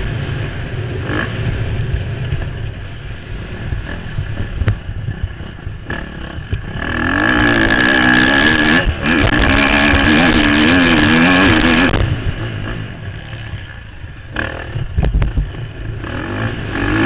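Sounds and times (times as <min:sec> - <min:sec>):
motorbike engine revving: 0:00.0 - 0:17.0
wind rumble: 0:00.0 - 0:17.0.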